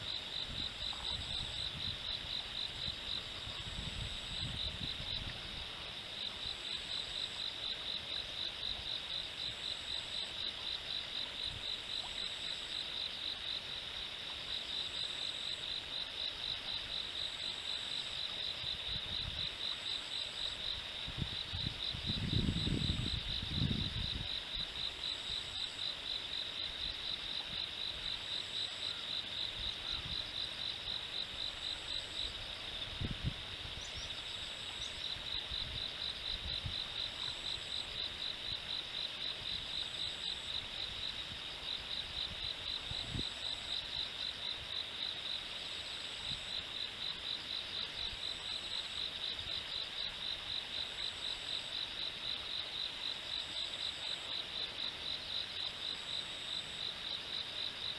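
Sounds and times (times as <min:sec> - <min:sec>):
insects pulsing trill: 0:00.0 - 0:57.9.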